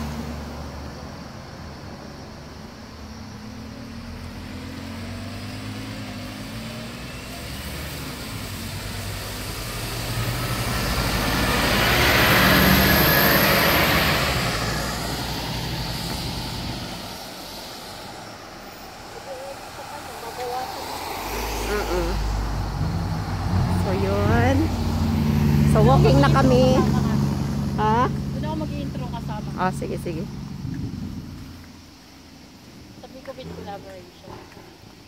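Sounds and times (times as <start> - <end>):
bus driving past: 0.0 - 35.0.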